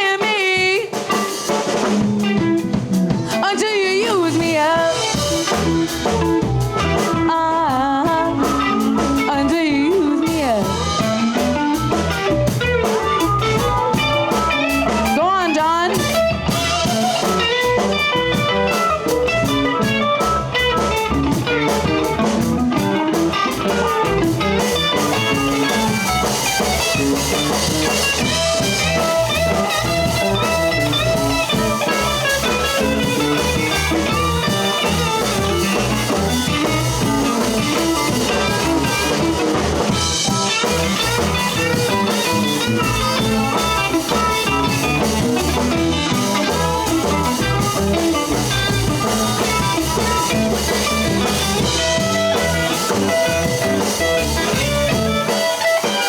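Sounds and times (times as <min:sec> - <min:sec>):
electric guitar solo: 0:00.0 - 0:56.0
live blues band playing: 0:00.0 - 0:56.0.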